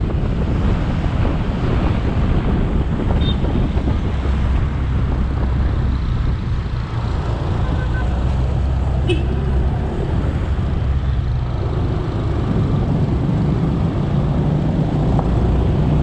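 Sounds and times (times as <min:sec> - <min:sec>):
motorcycle engine and road rumble: 0:00.0 - 0:16.0
wind buffeting microphone: 0:00.0 - 0:16.0.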